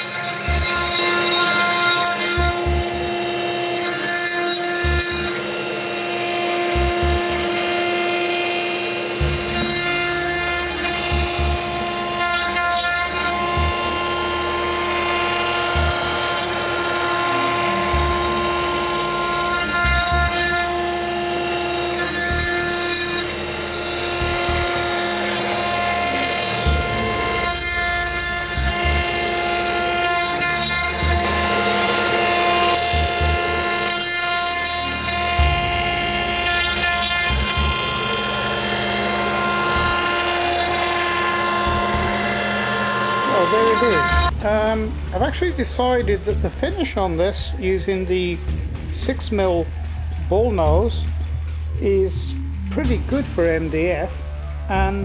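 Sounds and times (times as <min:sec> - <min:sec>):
router spindle whining: 0:00.0 - 0:55.0.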